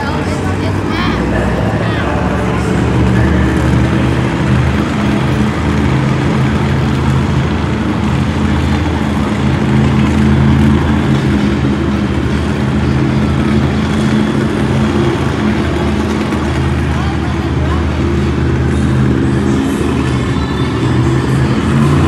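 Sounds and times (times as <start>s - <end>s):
truck engines running: 0.0s - 22.0s.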